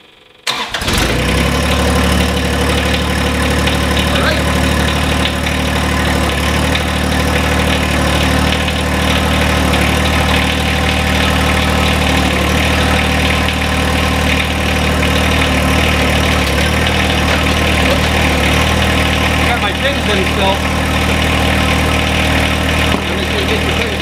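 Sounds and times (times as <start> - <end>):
tractor diesel engine idling: 0.4 - 24.0.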